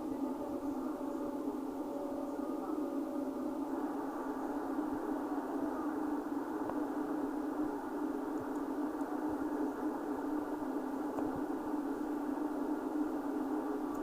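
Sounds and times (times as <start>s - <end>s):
train carriage running hum: 0.0s - 12.0s.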